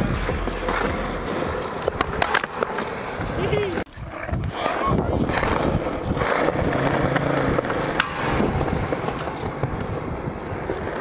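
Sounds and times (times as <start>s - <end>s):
skateboard clack: 0.0s - 11.0s
skateboard wheels rolling on concrete: 0.0s - 11.0s.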